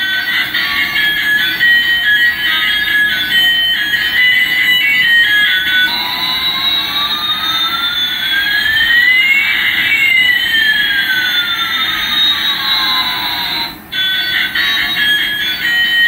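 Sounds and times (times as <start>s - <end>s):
electronic toy jet engine whine: 0.0s - 16.0s.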